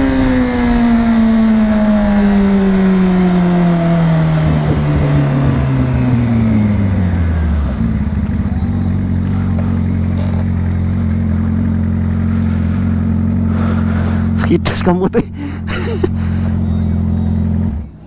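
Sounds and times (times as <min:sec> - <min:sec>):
motorcycle engine winding down: 0:00.0 - 0:18.0.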